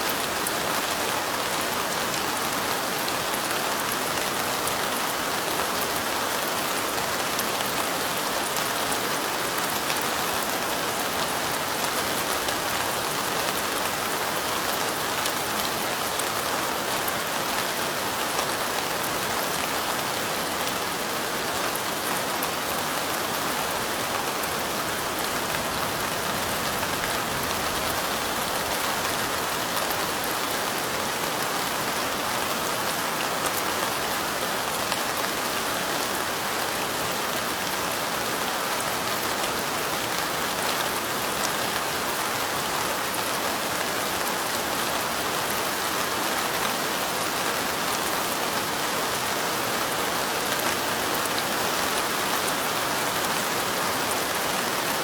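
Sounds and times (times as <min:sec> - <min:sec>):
light rain falling: 0:00.0 - 0:55.0.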